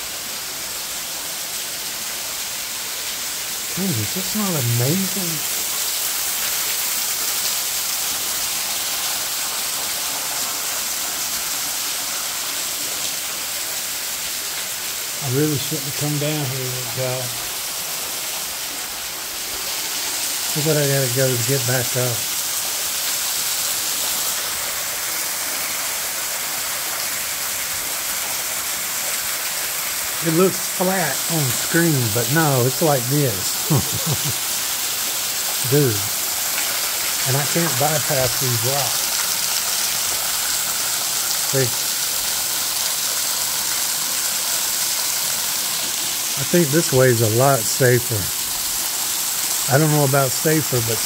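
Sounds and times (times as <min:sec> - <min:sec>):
waterfall splashing onto rocks: 0:00.0 - 0:51.0.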